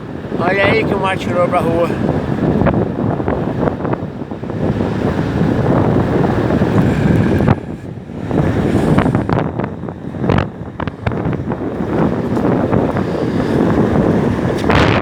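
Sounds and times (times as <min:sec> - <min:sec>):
rough surf: 0:00.0 - 0:15.0
wind buffeting microphone: 0:00.0 - 0:15.0.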